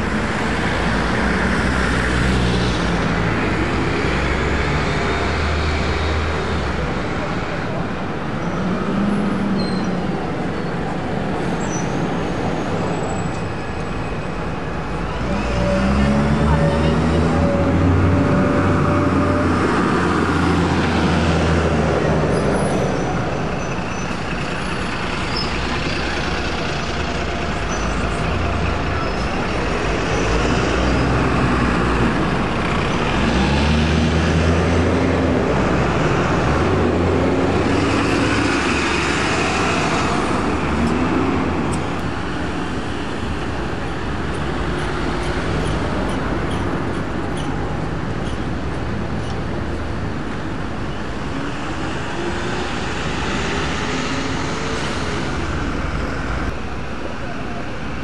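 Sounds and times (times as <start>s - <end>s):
bus engines accelerating: 0.0s - 58.0s
traffic noise: 0.0s - 58.0s.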